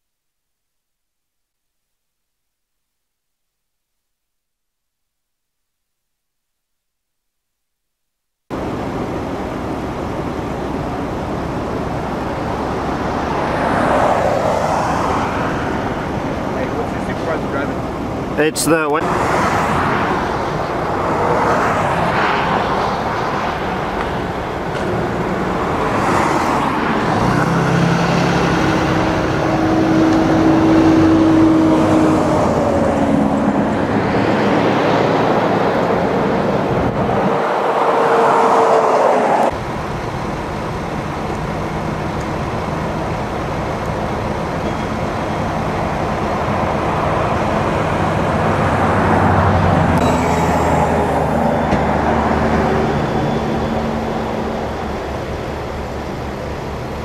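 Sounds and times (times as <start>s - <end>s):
freeway traffic passing: 8.5s - 57.0s.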